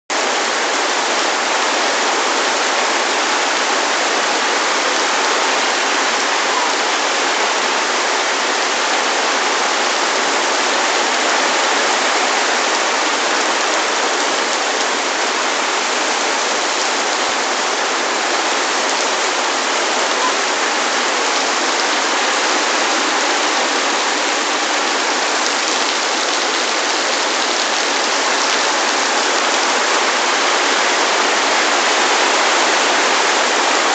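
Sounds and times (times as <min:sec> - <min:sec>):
heavy rain on water: 0:00.1 - 0:33.9.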